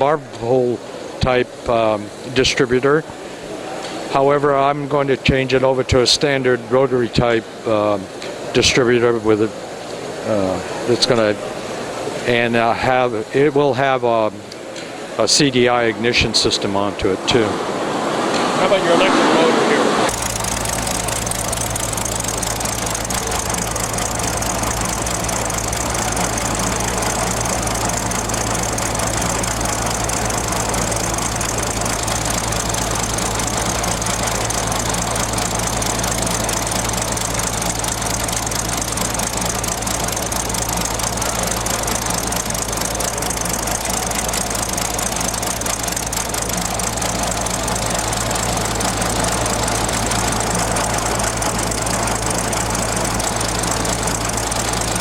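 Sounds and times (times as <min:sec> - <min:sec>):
model engine running steadily: 0:00.0 - 0:55.0.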